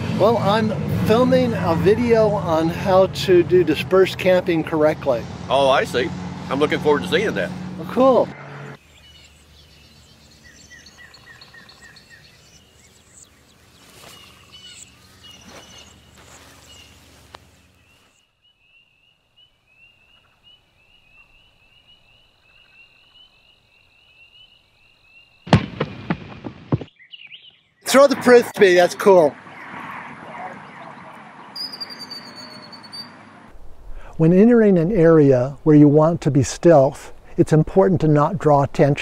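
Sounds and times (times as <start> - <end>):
birds chirping: 0.0 - 33.6.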